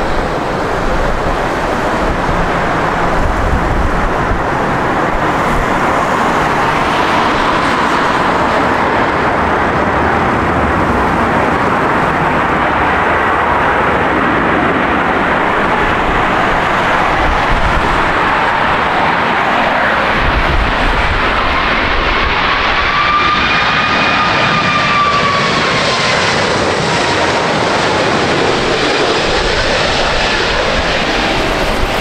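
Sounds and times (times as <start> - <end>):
jet engines rushing: 0.0 - 32.0.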